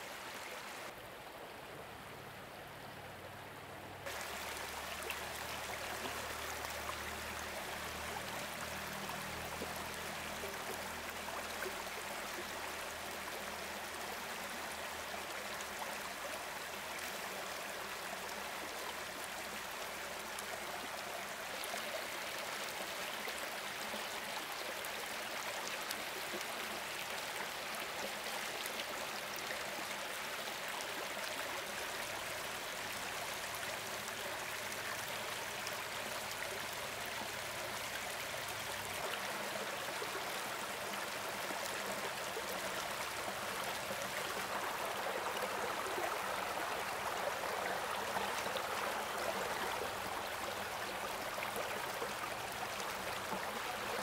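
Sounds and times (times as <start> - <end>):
stream water running: 0.0 - 54.0.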